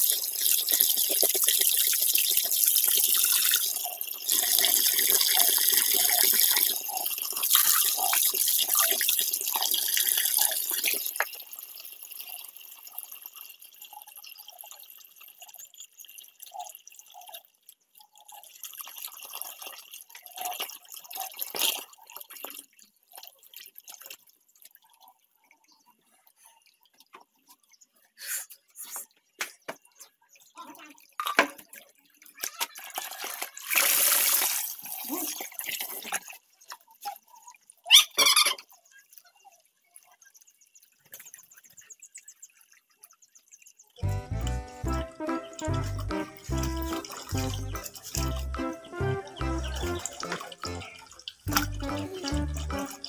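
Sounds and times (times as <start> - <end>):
water pouring into paddling pool: 0.0 - 28.4, 29.9 - 53.0
water trickling and dripping: 0.0 - 53.0.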